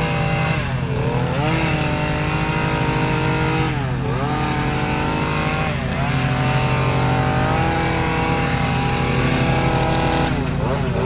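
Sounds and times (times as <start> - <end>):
small petrol engines running: 0.0 - 11.0.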